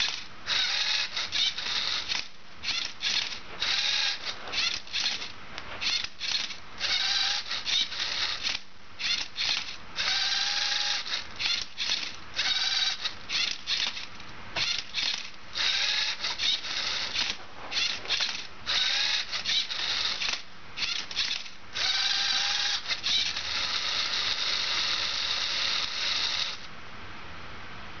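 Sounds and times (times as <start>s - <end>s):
servo motors whirring: 0.0s - 26.7s.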